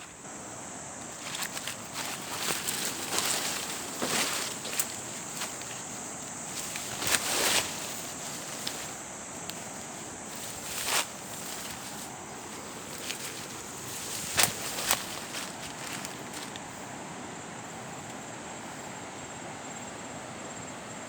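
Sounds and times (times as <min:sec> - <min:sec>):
footsteps and scuffs outdoors: 0:00.0 - 0:17.1
outdoor ambience hiss: 0:00.0 - 0:21.0.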